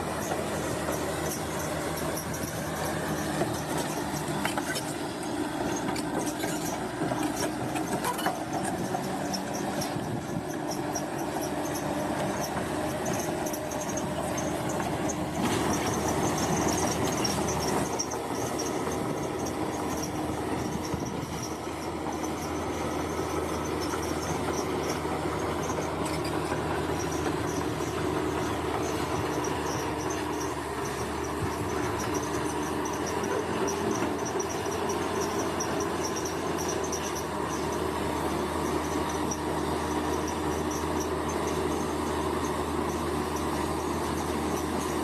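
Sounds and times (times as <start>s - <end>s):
bulldozer engine under load: 0.0s - 45.0s
steel tracks grinding and squealing: 0.0s - 45.0s.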